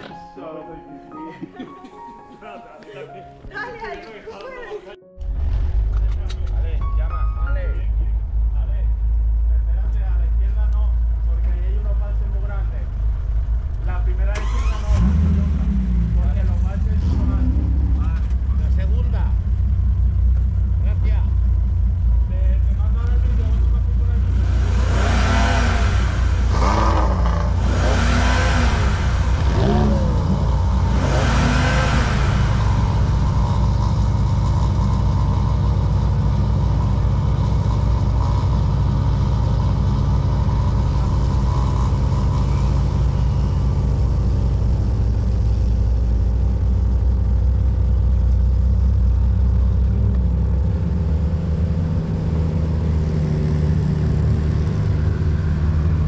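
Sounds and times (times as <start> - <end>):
car engine revving and idling: 5.2 - 56.0.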